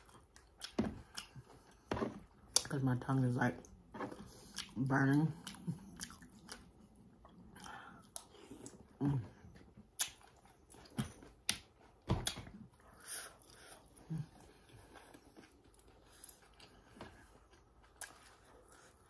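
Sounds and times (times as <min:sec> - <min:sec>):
person chewing: 0:00.0 - 0:02.7, 0:03.6 - 0:19.0.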